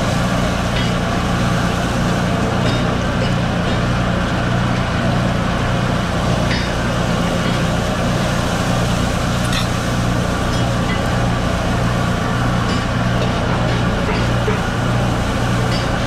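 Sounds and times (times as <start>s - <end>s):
gas burners roaring: 0.0s - 16.0s
ventilation hum: 0.0s - 16.0s.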